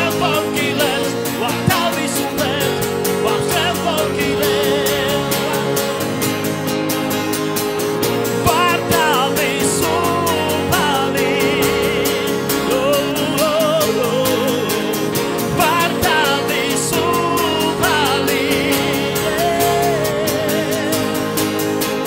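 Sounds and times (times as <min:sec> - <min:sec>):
man singing with vibrato: 0:00.0 - 0:06.5, 0:08.2 - 0:22.0
acoustic guitar: 0:00.0 - 0:22.0
keyboard: 0:00.0 - 0:22.0.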